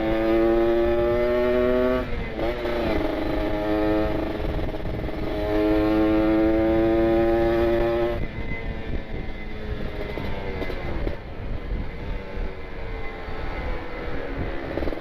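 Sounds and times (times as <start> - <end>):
motorcycle engine buzzing: 0.0 - 15.0.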